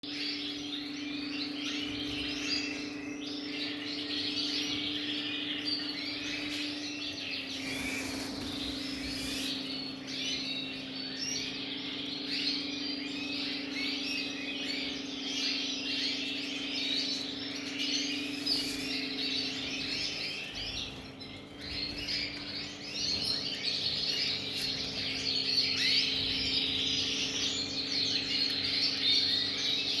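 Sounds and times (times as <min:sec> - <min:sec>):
canaries chirping and trilling: 0:00.0 - 0:30.0
steady low hum: 0:00.1 - 0:30.0.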